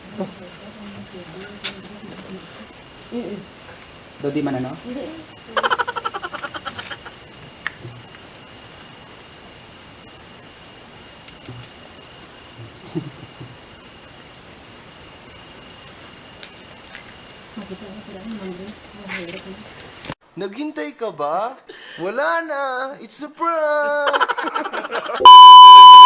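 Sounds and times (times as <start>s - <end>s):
insect chorus trilling: 0.0s - 20.2s, 25.2s - 26.0s.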